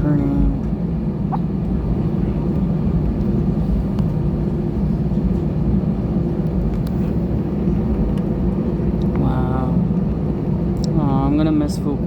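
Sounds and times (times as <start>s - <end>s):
airplane cabin engine roar: 0.0s - 12.0s.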